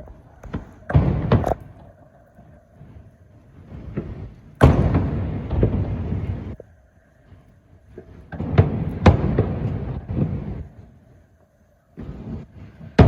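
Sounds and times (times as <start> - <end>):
fireworks booming: 0.0 - 6.7, 7.3 - 11.2, 12.0 - 13.0
crackling firework bursts: 0.0 - 13.0.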